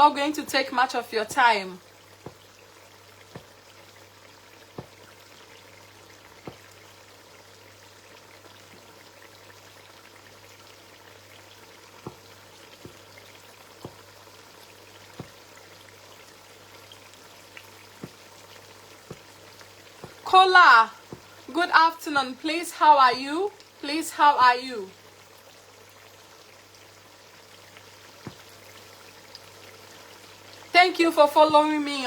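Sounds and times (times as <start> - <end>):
food frying in oil: 0.0 - 32.0.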